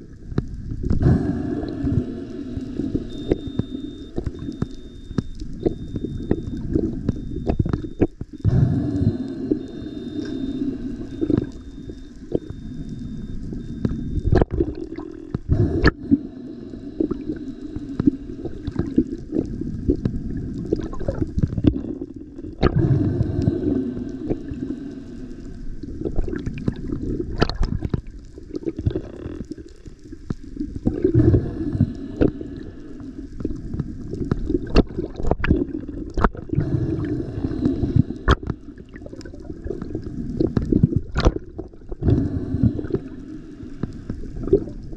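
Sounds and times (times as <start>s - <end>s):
underwater rumble of moving water: 0.0s - 44.9s
sharp clicks and pops: 2.8s - 16.2s, 17.0s - 23.5s, 25.8s - 32.4s, 33.3s - 36.6s, 37.5s - 44.8s.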